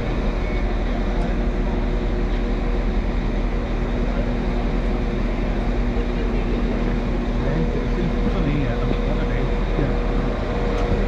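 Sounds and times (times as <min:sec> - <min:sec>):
train idling hum: 0:00.0 - 0:11.0.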